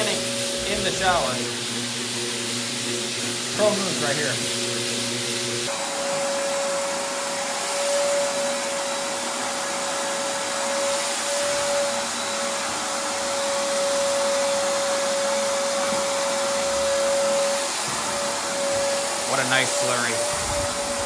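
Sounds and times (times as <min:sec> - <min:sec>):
floor grinder grinding stone: 0:00.0 - 0:21.0
motor whine: 0:00.0 - 0:21.0.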